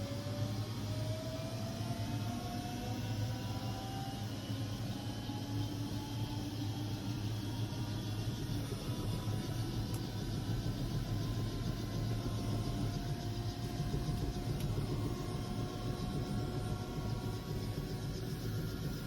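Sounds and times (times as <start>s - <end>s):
faint turbine whine: 0.0s - 19.0s
helicopter rotor rumble: 0.0s - 19.0s.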